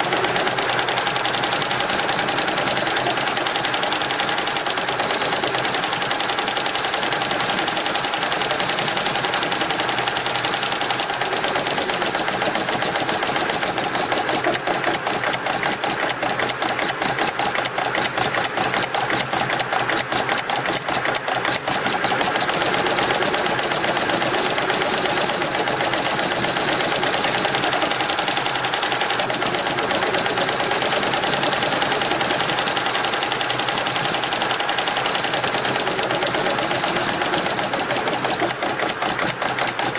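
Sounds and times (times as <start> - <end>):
constant machine tone: 0.0 - 39.9
embroidery machine needle clatter: 0.0 - 39.9.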